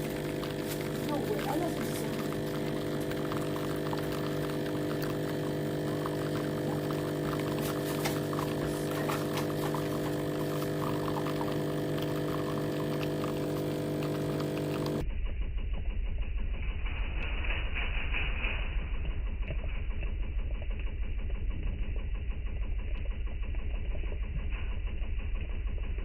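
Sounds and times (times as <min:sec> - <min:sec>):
espresso machine humming: 0:00.0 - 0:17.3, 0:19.0 - 0:26.0.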